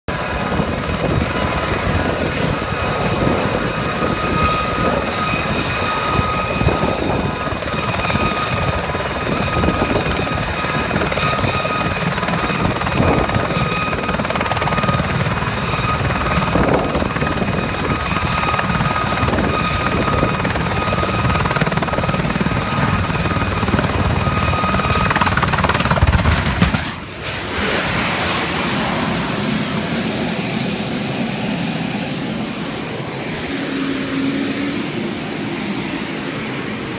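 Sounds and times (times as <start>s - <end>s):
helicopter crash: 0.1s - 33.8s
helicopter rotor noise: 0.1s - 36.9s
high turbine whine: 0.1s - 36.9s.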